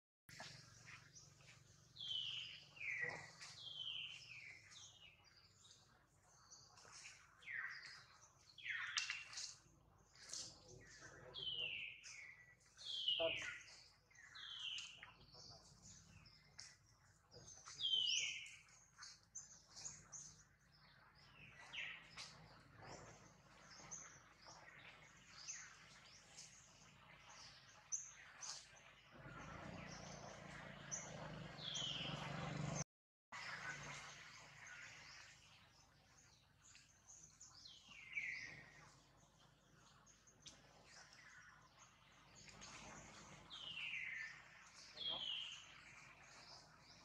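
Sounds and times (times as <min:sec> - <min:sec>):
birds chirping: 0:00.3 - 0:32.8, 0:33.4 - 0:47.0.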